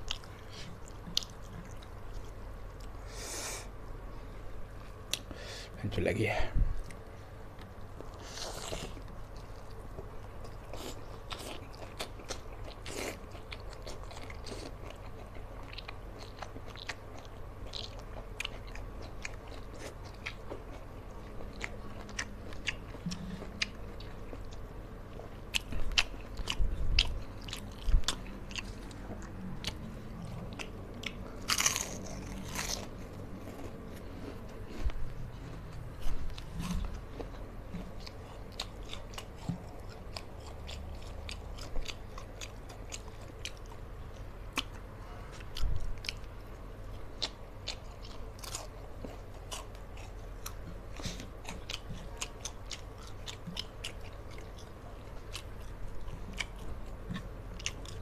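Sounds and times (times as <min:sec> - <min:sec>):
man chewing crunchy food: 0:00.0 - 0:03.7, 0:06.8 - 0:58.0.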